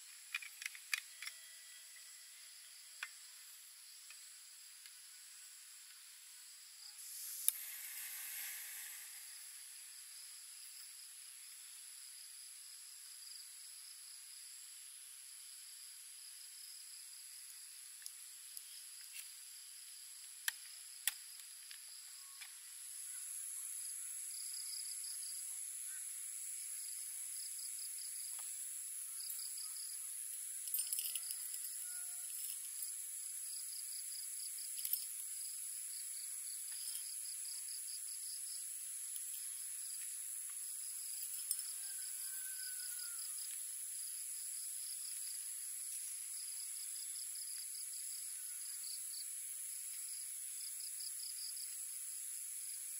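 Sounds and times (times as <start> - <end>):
crickets chirping: 0.0 - 52.9
steady high insect trill: 0.0 - 52.9.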